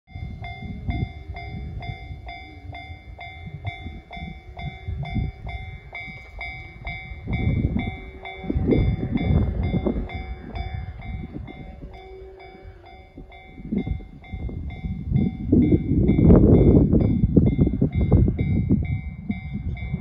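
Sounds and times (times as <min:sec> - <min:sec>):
low rumbling noise: 0:00.1 - 0:20.0.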